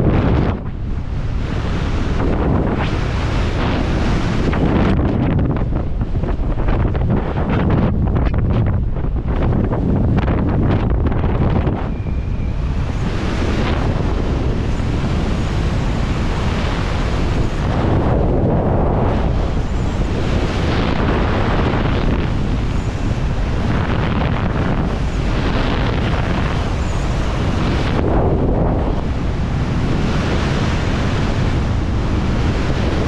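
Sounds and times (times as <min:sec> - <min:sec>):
loud rushing water: 0:00.0 - 0:06.9, 0:11.3 - 0:33.0
wind buffeting microphone: 0:00.0 - 0:33.0.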